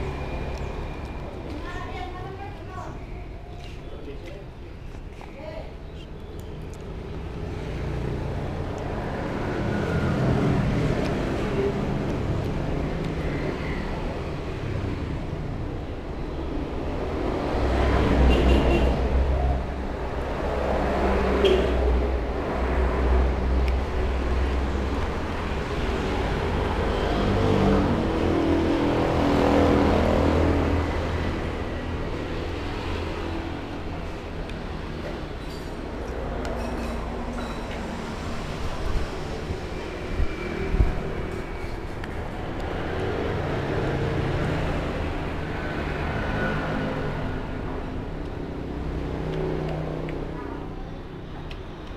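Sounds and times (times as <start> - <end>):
vehicle engines rumbling: 0.0 - 51.9.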